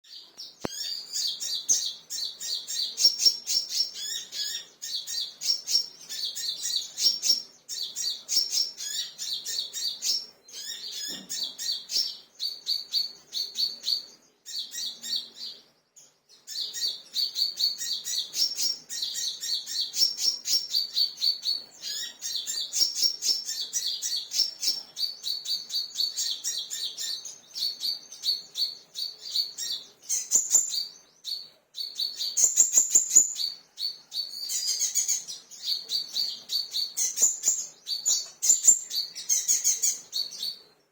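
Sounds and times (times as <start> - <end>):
sunbird chirping trills: 0.0 - 40.9.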